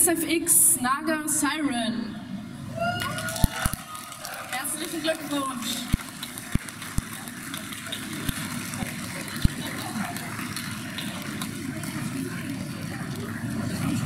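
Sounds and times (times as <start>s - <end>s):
crowd noise in large hall: 0.0s - 14.0s.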